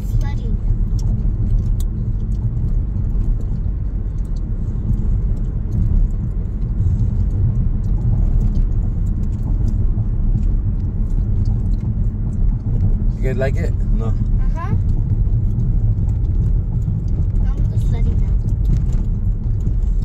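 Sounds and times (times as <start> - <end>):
car road and engine rumble: 0.0 - 20.0
small clicks and rattles: 0.0 - 20.0.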